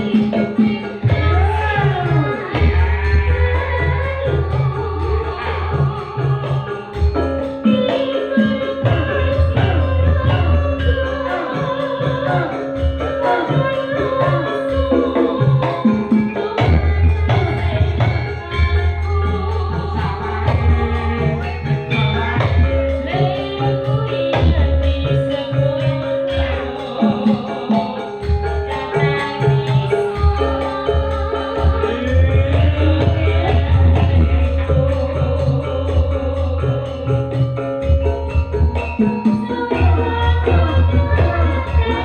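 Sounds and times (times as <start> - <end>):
person singing: 0.0 - 42.0.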